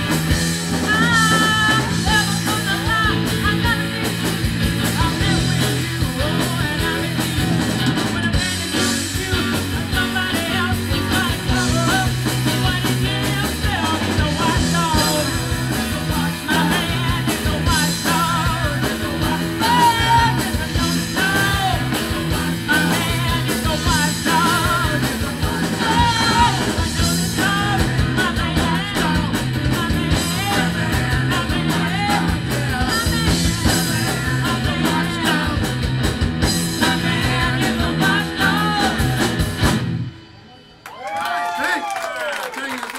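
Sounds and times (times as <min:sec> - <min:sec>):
drum kit steady beat: 0:00.0 - 0:40.2
electric bass: 0:00.0 - 0:40.3
electric guitars: 0:00.0 - 0:40.4
woman singing: 0:00.7 - 0:39.4.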